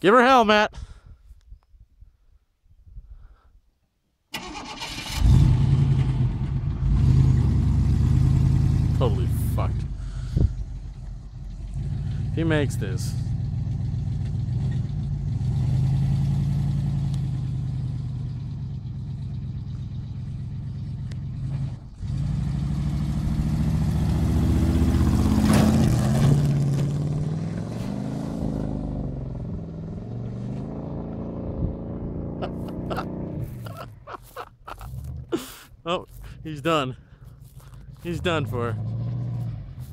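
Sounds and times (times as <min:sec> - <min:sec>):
truck engine revving: 0:04.5 - 0:39.9.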